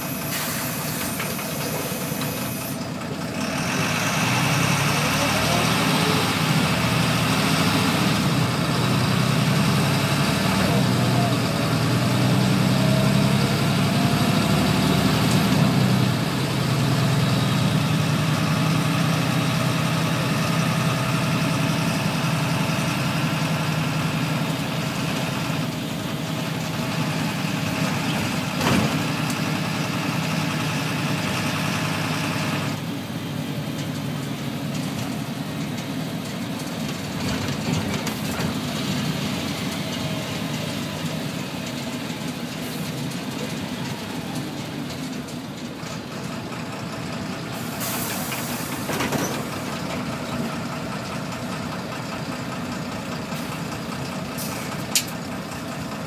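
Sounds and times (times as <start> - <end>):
vehicle drive hum: 0.0 - 56.0.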